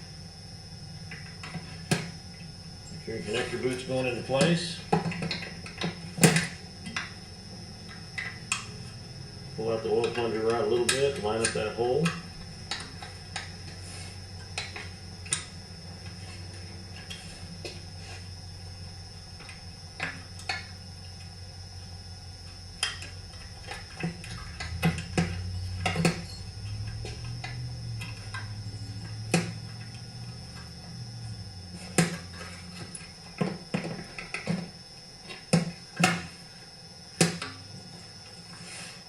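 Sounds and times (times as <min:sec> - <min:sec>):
low hum: 0:00.0 - 0:38.7.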